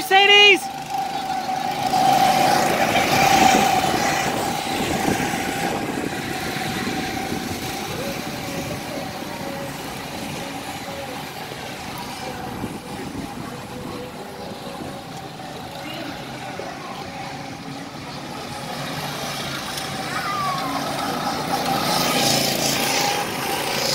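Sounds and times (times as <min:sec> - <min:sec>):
go-kart engines racing: 0:00.0 - 0:23.9.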